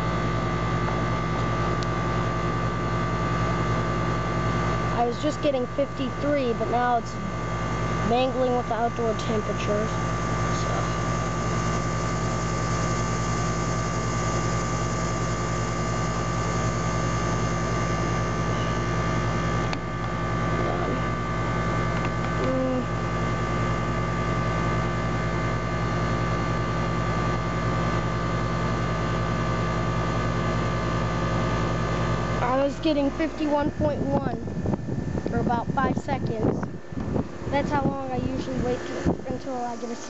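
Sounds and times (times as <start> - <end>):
compressor hum: 0.0 - 40.0
condenser fan rushing air: 0.0 - 40.0.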